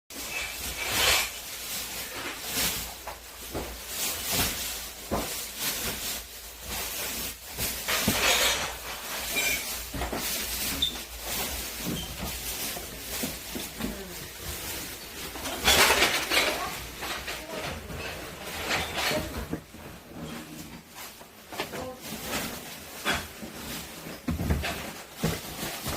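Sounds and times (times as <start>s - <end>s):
rustling and scraping of items: 0.1s - 25.9s.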